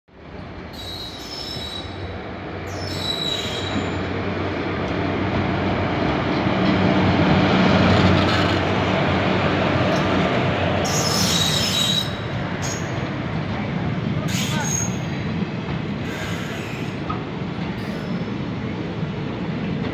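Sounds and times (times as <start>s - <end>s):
electric locomotive passing: 0.2s - 19.9s
train coaches rolling by: 0.2s - 19.9s.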